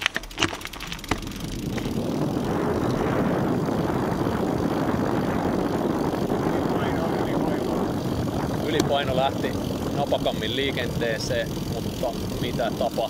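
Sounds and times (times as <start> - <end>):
tyres humming on asphalt: 0.0 - 13.0
wind rushing over microphone: 1.1 - 13.0.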